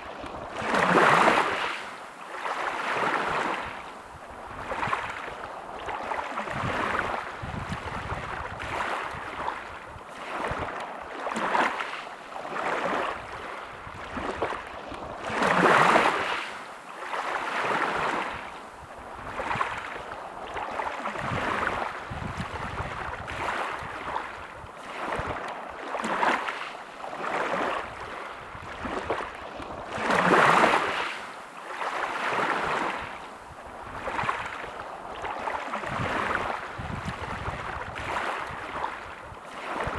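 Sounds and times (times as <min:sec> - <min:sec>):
big waves breaking: 0:00.0 - 0:39.9
sea waves washing ashore: 0:00.0 - 0:39.9.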